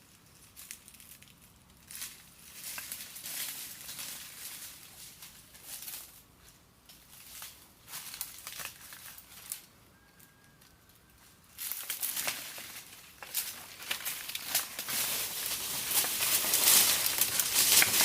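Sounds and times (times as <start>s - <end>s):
rustling and crinkling: 0.0s - 18.0s.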